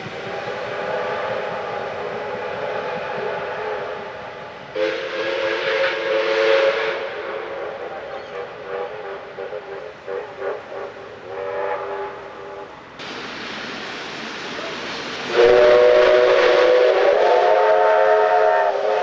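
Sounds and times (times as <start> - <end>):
steam locomotive whistles: 0.0 - 13.0, 14.6 - 19.0
rush of steam: 0.0 - 19.0.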